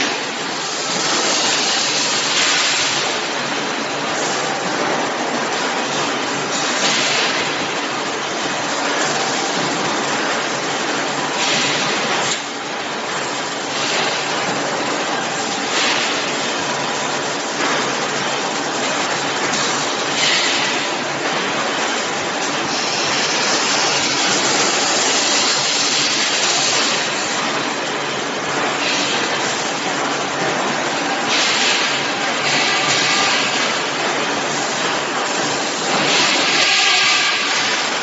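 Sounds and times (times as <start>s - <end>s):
machine running: 0.0s - 38.0s.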